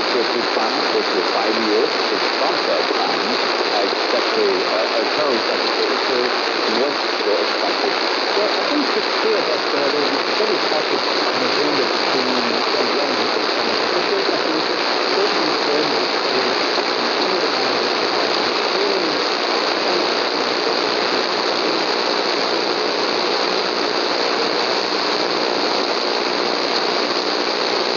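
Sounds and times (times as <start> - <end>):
faint wavering radio signal: 0.0 - 27.9
radio static hiss and crackle: 0.0 - 27.9.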